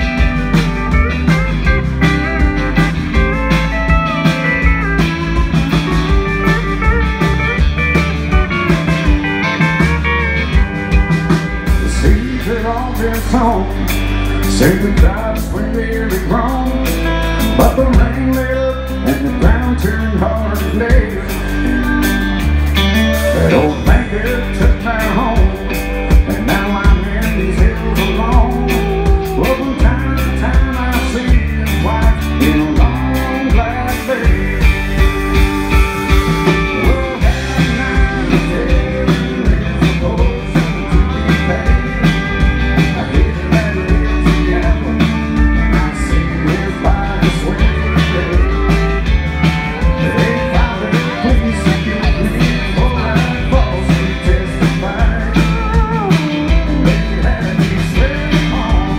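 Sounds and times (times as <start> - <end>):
bass guitar: 0.0 - 58.9
drums: 0.0 - 58.9
electric guitar bending notes: 0.0 - 58.9.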